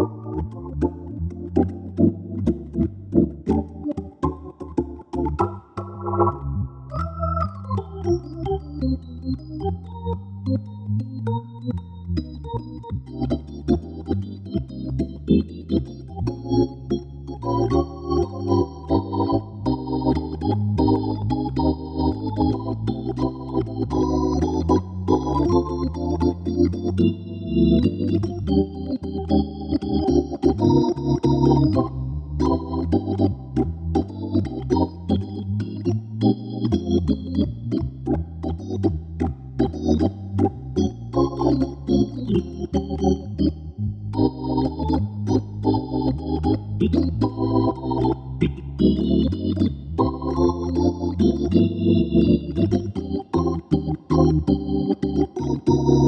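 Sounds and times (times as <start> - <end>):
jazz organ playing: 0.0 - 56.0
organ bass line: 0.0 - 56.0.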